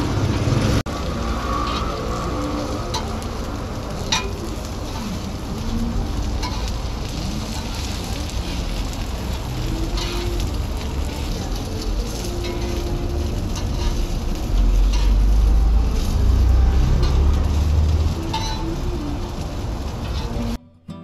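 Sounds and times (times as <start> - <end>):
pancakes sizzling in oil: 0.1 - 20.6.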